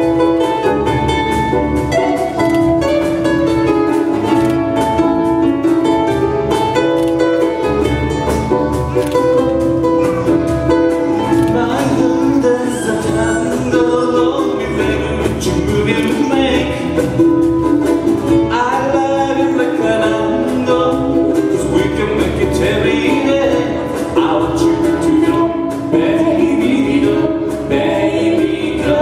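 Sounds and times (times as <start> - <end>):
bass guitar: 0.0 - 29.0
cajon: 0.0 - 29.0
strummed ukuleles: 0.0 - 29.0.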